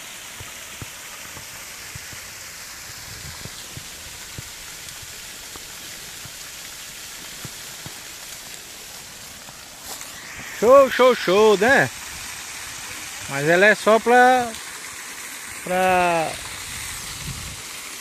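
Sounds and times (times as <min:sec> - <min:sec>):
waterfall hissing and splashing: 0:00.0 - 0:18.0.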